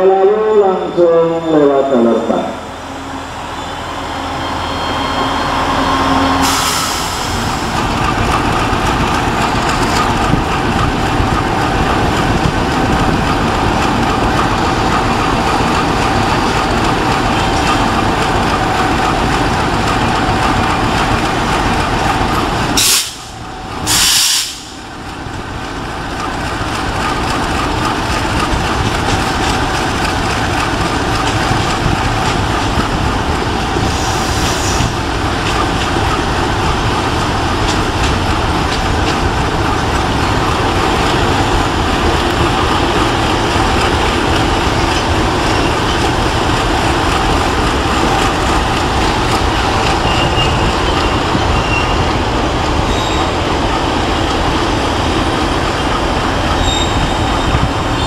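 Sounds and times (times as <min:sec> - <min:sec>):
diesel train engine running: 0:00.0 - 0:58.0.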